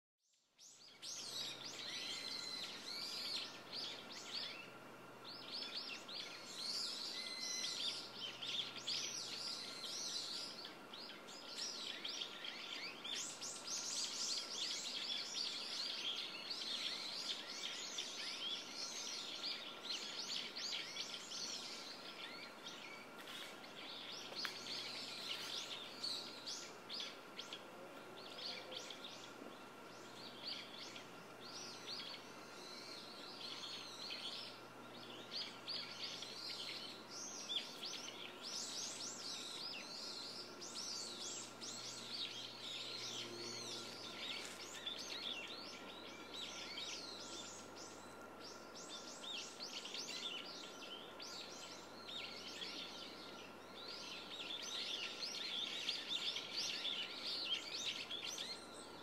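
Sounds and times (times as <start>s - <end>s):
small birds chirping: 0.4s - 59.0s
steady background hiss: 0.4s - 59.0s.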